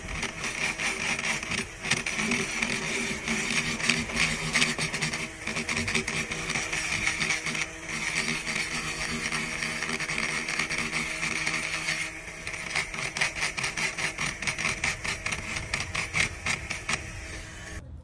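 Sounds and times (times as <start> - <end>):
rotary tool grinding metal: 0.0 - 17.8.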